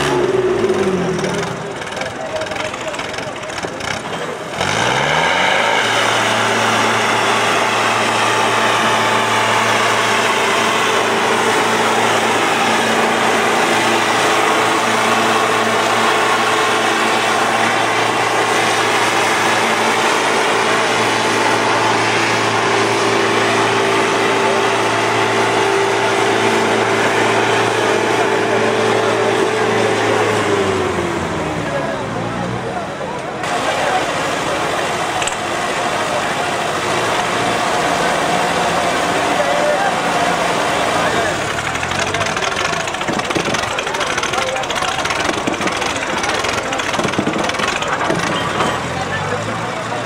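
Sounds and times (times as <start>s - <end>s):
diesel tractor engines straining: 0.0s - 50.0s.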